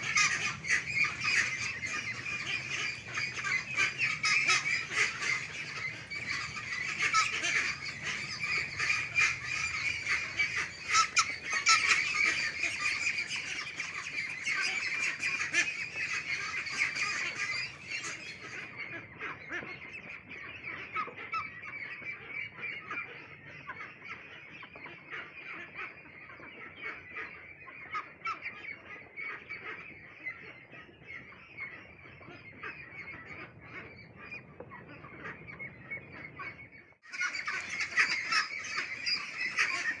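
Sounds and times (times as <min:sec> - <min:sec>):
ducklings calling: 0:00.0 - 0:40.0.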